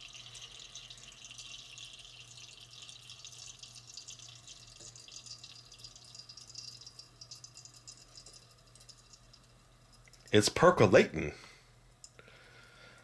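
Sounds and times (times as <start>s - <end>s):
liquid trickling and dripping: 0.0s - 10.9s, 11.8s - 13.0s.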